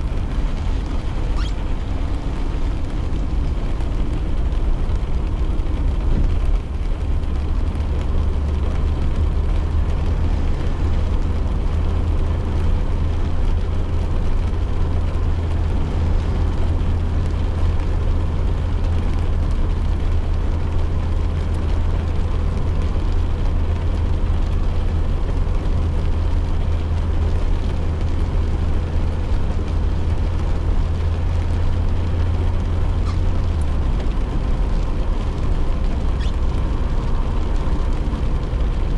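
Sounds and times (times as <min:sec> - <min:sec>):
car driving rumble: 0:00.0 - 0:38.9
hiss of rain and tyres: 0:00.0 - 0:38.9.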